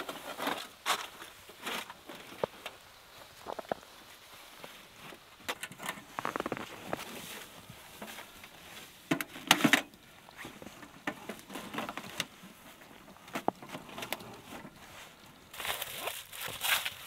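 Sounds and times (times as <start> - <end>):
rustling and crunching: 0.0 - 17.0.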